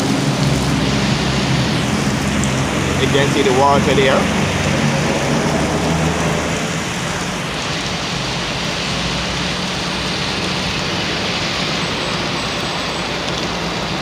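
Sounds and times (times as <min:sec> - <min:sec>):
water dripping and running: 0:00.0 - 0:14.0.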